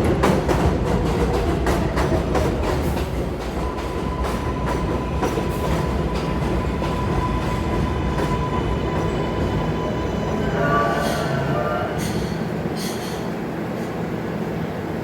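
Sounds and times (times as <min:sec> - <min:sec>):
subway train rumbling on rails: 0:00.0 - 0:15.0
train high whine: 0:01.8 - 0:14.0.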